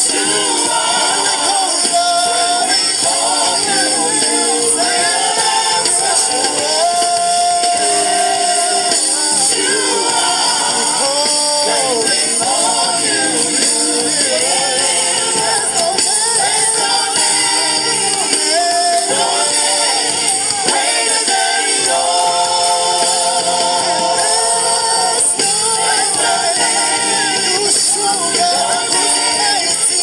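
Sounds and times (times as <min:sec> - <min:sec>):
gospel band playing: 0:00.0 - 0:30.0
voices singing: 0:00.0 - 0:30.0.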